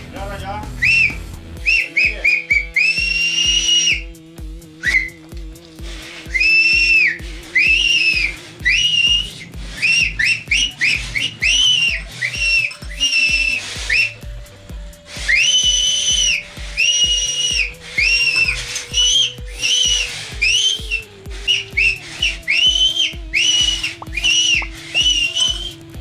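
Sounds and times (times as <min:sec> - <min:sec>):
steady low beat: 0:00.0 - 0:26.0
shrill whistle blasts: 0:00.8 - 0:04.2, 0:04.8 - 0:05.3, 0:05.9 - 0:26.0.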